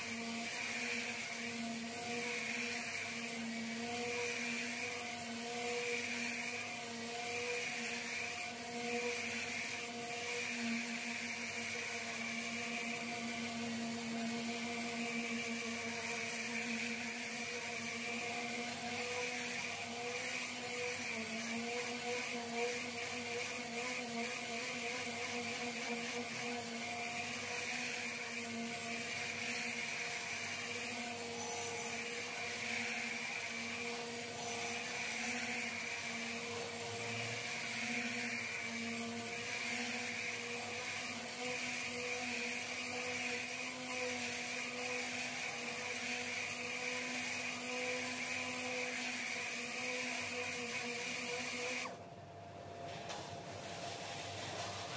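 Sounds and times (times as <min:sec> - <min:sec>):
orbital sander whining: 0:00.0 - 0:52.0.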